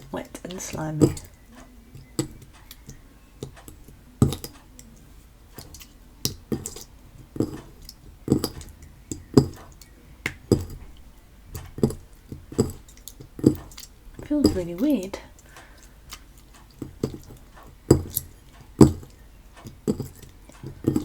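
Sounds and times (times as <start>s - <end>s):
slime mixed by hand: 0.0s - 21.0s.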